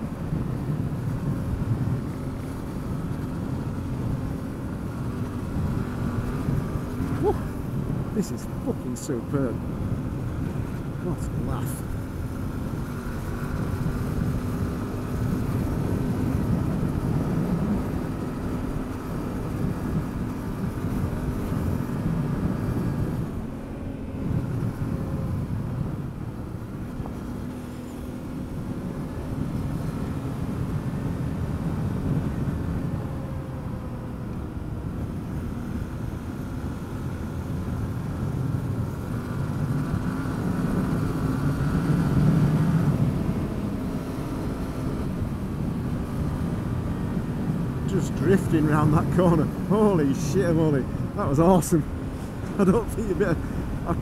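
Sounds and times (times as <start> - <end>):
tyre and wind noise: 0.0 - 8.3, 9.6 - 54.0
motorcycle engine running: 0.0 - 54.0.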